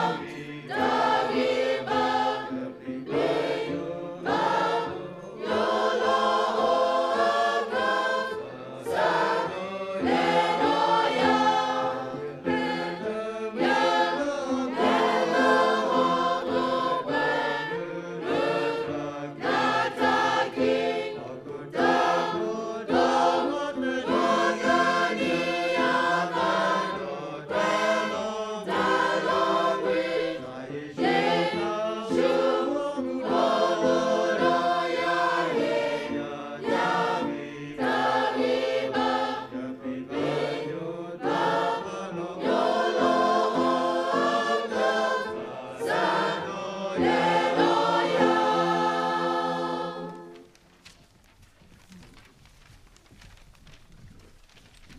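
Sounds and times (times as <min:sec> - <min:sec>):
mixed choir singing: 0:00.0 - 0:50.4.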